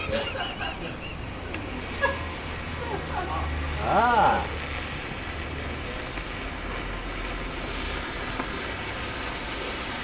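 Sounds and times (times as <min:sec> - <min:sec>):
rushing flame: 0:00.0 - 0:10.0.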